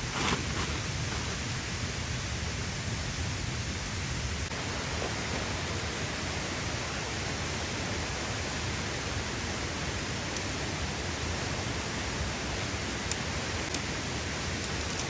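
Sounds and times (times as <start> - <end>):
heavy rain: 0.0 - 15.0
waterfall: 0.0 - 15.0.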